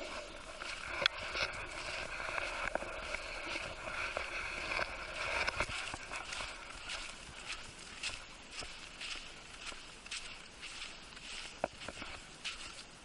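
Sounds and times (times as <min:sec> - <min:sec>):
footsteps crunching on snow: 0:00.0 - 0:13.0
steady background noise: 0:00.0 - 0:13.0.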